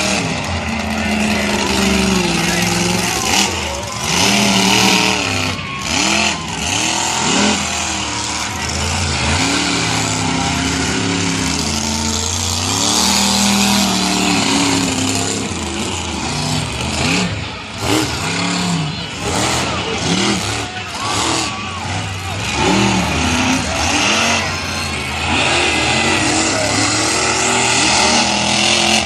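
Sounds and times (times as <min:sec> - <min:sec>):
truck engines revving loudly: 0:00.0 - 0:29.0.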